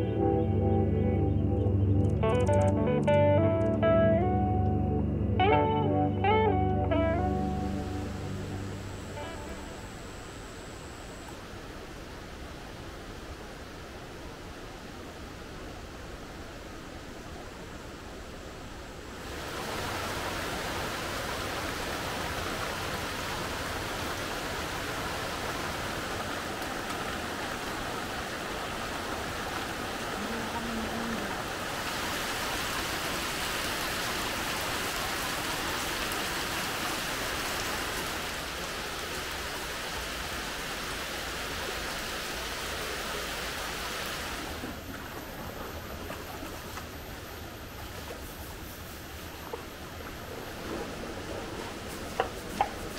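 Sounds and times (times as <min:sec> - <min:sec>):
flowing water rushing: 0:07.1 - 0:52.9.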